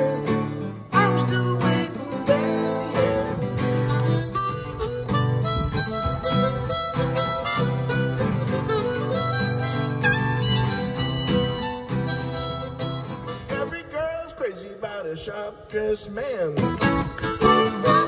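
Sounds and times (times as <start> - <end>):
harmonica melody: 0.0 - 13.7, 16.6 - 18.0
strummed acoustic guitar: 0.0 - 13.8, 16.6 - 18.0.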